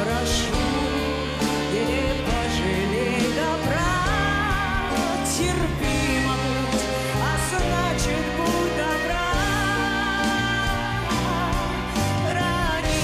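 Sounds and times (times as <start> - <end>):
band accompaniment: 0.0 - 13.0
woman singing with vibrato: 0.0 - 13.0.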